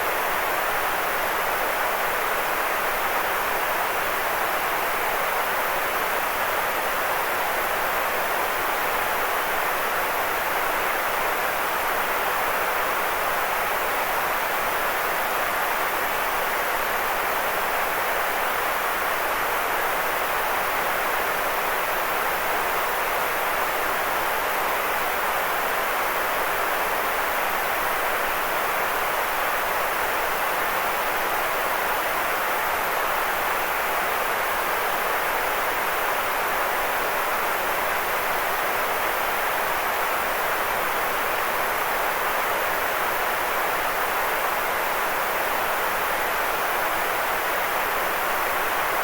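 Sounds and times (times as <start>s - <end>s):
white noise hiss: 0.0s - 49.0s.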